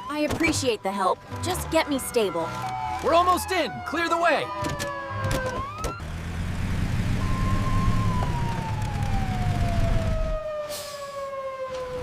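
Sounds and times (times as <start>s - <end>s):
siren wailing: 0.0s - 0.5s, 1.7s - 6.1s, 7.1s - 12.0s.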